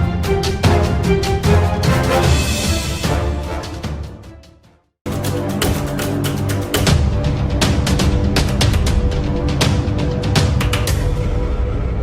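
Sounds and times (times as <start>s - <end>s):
theme music with drumbeat: 0.0s - 11.7s.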